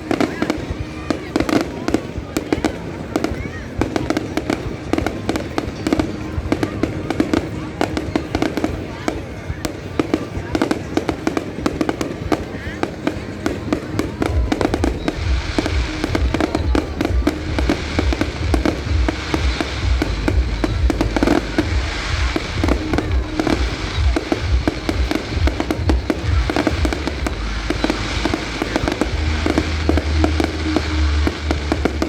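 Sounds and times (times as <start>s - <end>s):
fireworks bangs and crackling: 0.0s - 32.0s
music with deep bass: 0.0s - 32.0s.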